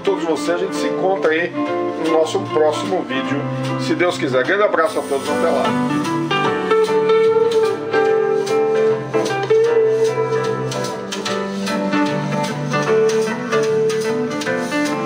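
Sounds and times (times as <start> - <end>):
guitar music over loudspeakers: 0.0 - 15.0.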